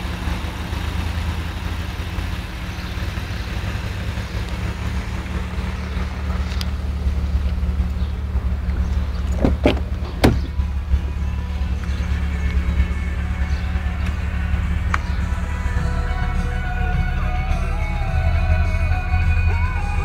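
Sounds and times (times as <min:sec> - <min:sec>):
old vehicle engine humming: 0:00.0 - 0:20.0.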